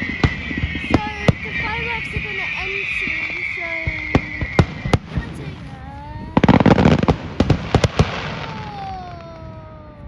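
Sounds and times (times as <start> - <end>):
sharp firework bangs: 0.0 - 9.1
fireworks crackling bangs: 0.0 - 10.0.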